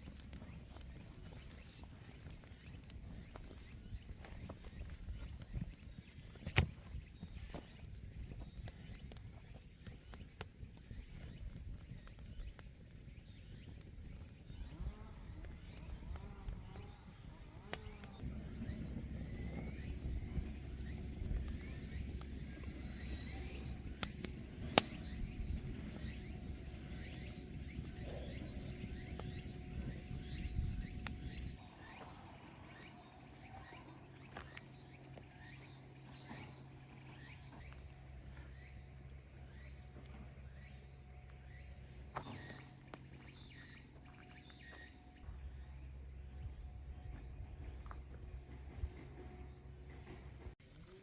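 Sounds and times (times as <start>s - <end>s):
faint insect chirps: 0.0s - 51.0s.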